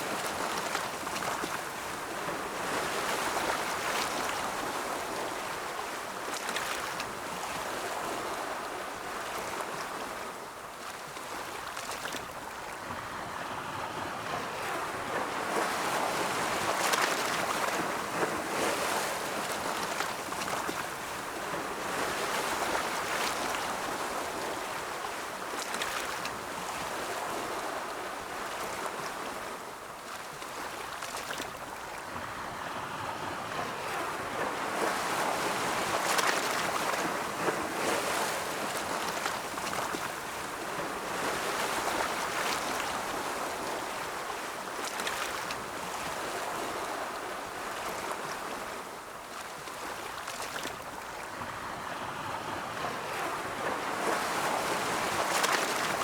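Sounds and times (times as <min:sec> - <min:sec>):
ocean waves washing onto shore: 0:00.0 - 0:56.0.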